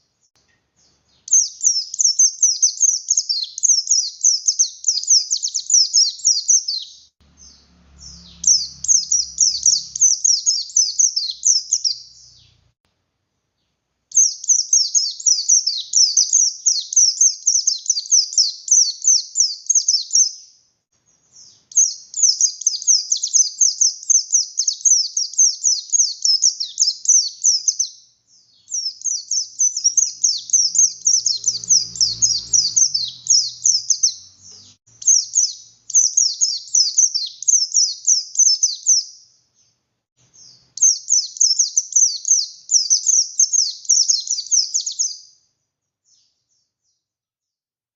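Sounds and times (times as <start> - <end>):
bird chattering song: 0.0 - 12.7, 14.1 - 20.5, 21.2 - 45.4.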